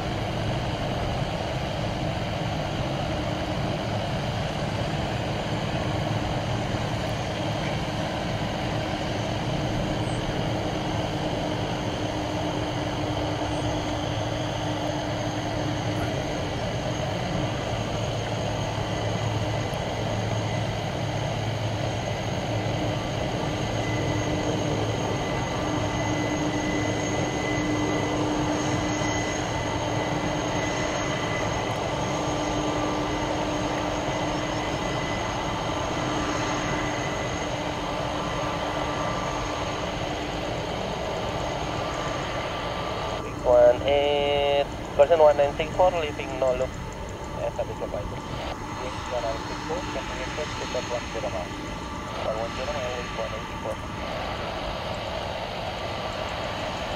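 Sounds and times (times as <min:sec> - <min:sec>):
jet engines rumbling and whining: 0:00.0 - 0:56.9.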